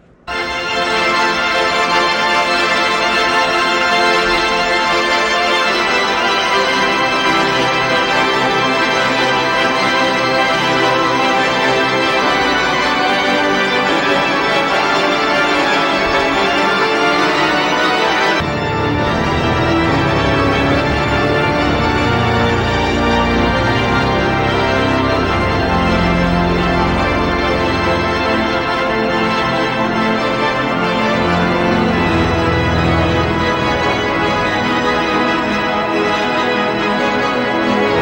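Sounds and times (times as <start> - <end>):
organ chords: 0.0 - 38.0.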